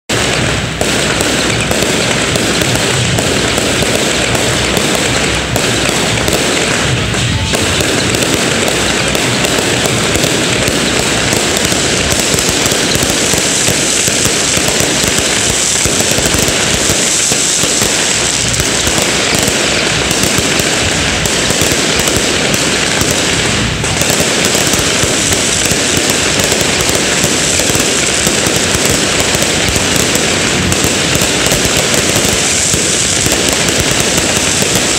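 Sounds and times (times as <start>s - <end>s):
fireworks crackling: 0.0s - 34.9s.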